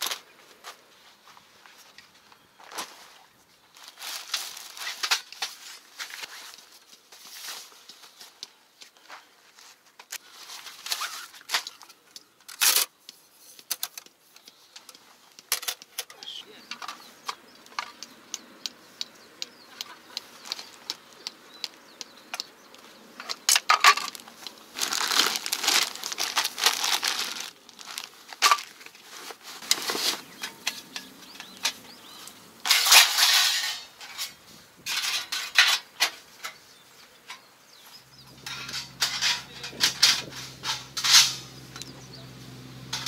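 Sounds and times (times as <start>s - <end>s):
crinkling rustle: 0.0s - 18.0s, 19.7s - 43.0s.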